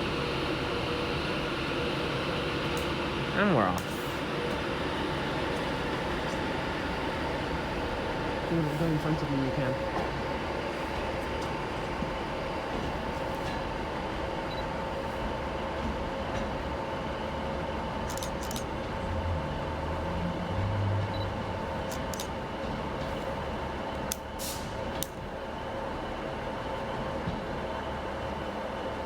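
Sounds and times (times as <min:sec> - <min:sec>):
electric train whine: 0:00.0 - 0:29.0
low rumble of train: 0:00.0 - 0:29.0.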